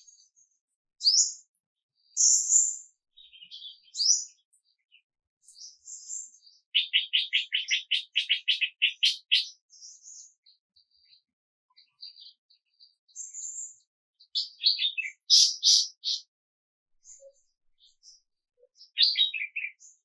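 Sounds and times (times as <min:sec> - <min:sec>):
songbirds chirping and singing: 0:00.0 - 0:16.4, 0:17.0 - 0:20.0.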